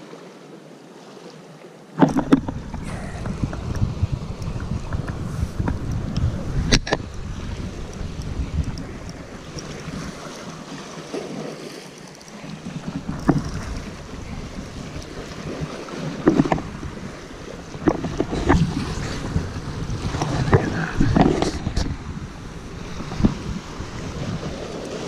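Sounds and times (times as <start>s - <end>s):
sea swell washing against rock: 2.0s - 25.0s
wind buffeting microphone: 2.1s - 10.7s, 12.4s - 25.0s.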